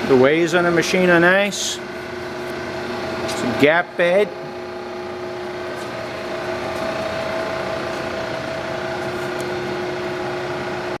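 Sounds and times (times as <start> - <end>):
lathe motor humming and whining: 0.0 - 11.0.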